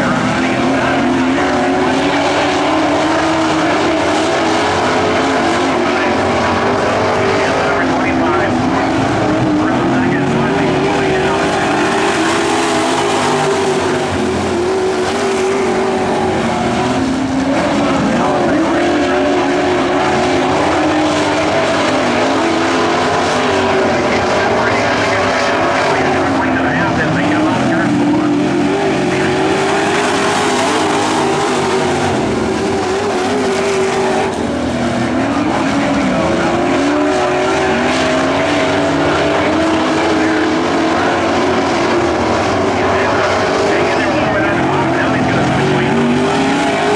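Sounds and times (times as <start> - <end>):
racing truck engines: 0.0 - 46.9.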